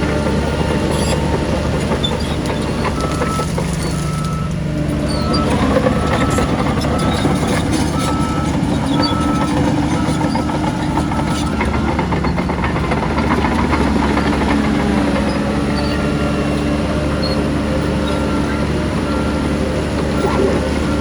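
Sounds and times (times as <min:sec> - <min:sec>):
heavy machinery diesel engines: 0:00.0 - 0:21.0
reversing alarm beeping: 0:02.3 - 0:12.5, 0:13.2 - 0:21.0.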